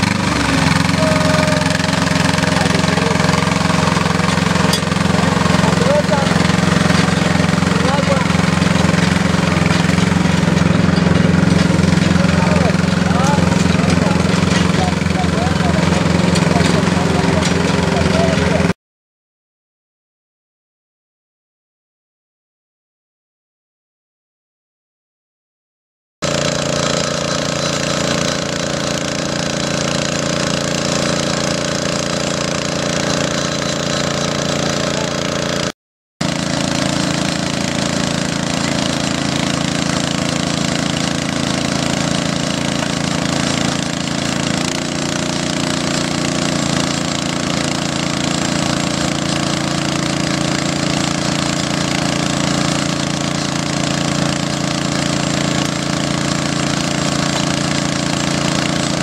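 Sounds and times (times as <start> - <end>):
drilling rig engine and rattle: 0.0 - 18.8, 26.2 - 59.0.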